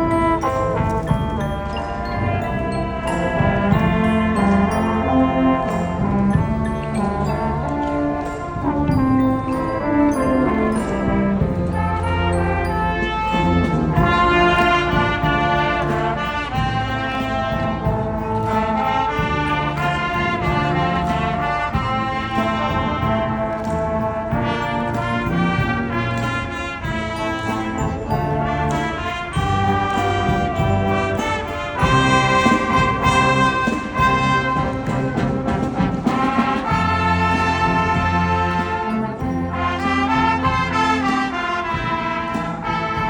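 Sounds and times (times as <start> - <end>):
wind band playing: 0.0 - 43.0.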